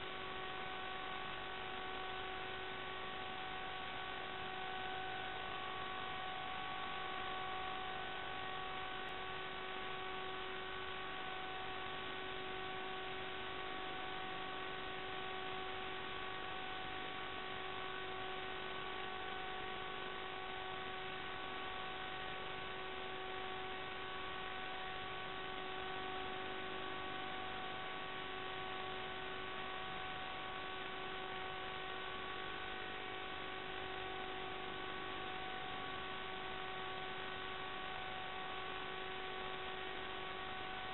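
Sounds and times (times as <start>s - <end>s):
constant electrical hum: 0.0s - 40.9s.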